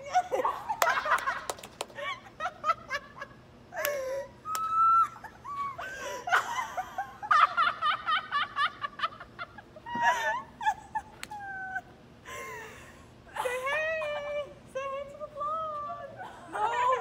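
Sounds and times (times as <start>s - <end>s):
young women laughing: 0.0s - 14.6s, 16.2s - 17.0s.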